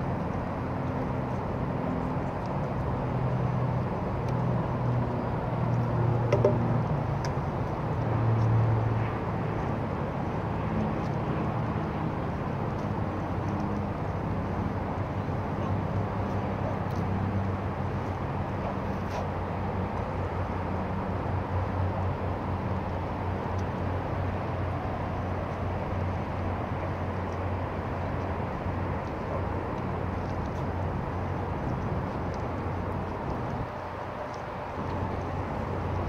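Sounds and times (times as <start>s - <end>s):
distant traffic: 0.0s - 36.0s
low engine hum: 0.0s - 36.0s.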